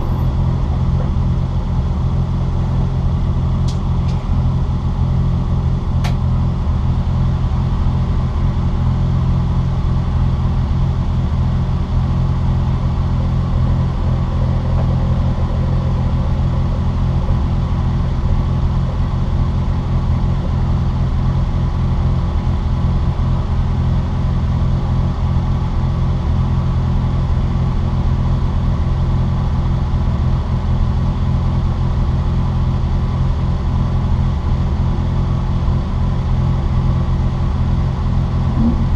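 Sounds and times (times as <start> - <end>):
road noise: 0.0 - 26.1, 32.9 - 38.9
car engine drone: 0.0 - 38.9.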